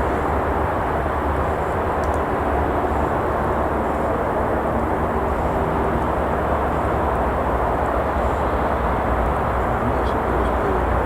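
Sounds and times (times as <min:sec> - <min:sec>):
road traffic rumbling hum: 0:00.0 - 0:11.0.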